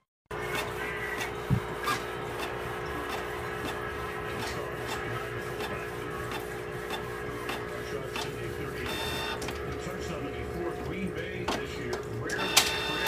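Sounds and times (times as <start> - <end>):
aquarium air pump humming: 0.3 - 13.0.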